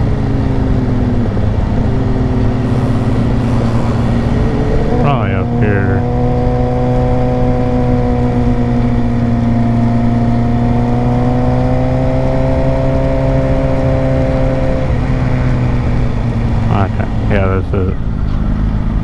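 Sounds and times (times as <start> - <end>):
motorcycle engine running: 0.9 - 16.6.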